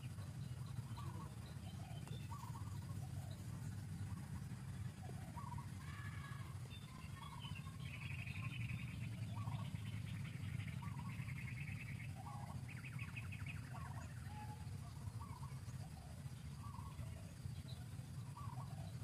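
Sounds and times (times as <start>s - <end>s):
birds chirping and trilling: 0.0s - 19.0s
steady low rumble: 0.0s - 19.0s.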